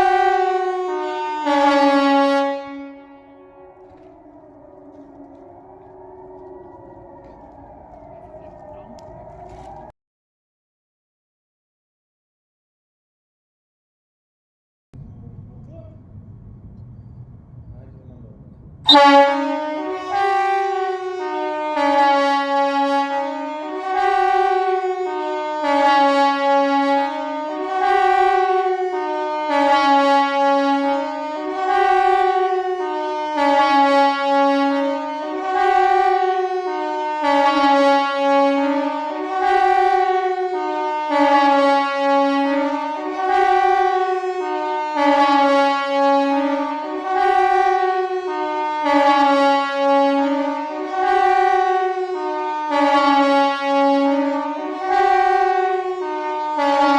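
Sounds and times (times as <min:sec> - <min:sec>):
siren howling up and down: 0:00.0 - 0:10.0, 0:18.6 - 0:56.9.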